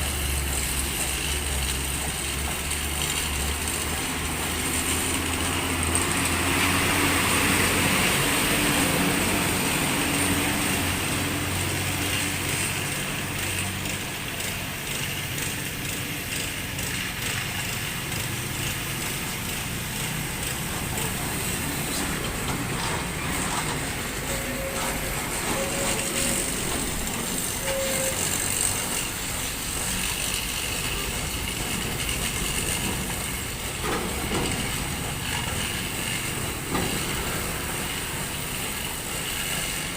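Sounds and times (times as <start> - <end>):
heavy vehicles passing: 3.6 - 14.7, 17.2 - 39.9.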